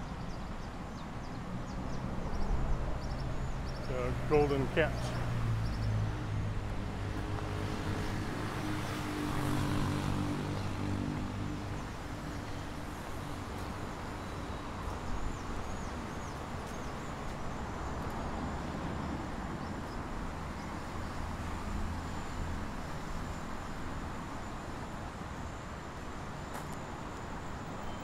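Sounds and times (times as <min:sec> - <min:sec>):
steady traffic rumble: 0:00.0 - 0:28.0.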